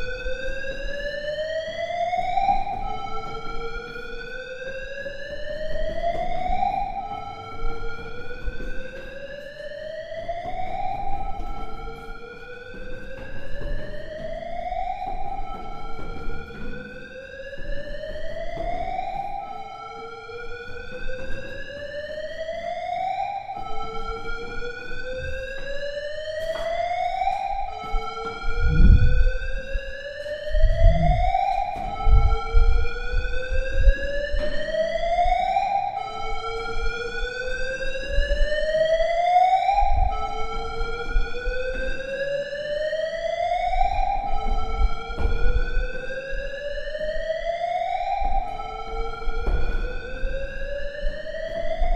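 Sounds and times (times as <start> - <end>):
fire alarm rising sweep: 0.0 - 51.9
footsteps thudding: 0.0 - 51.9.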